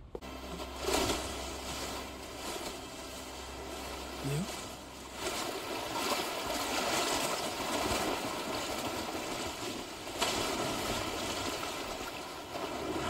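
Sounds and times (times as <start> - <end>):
small waves washing over sand: 0.6 - 13.0.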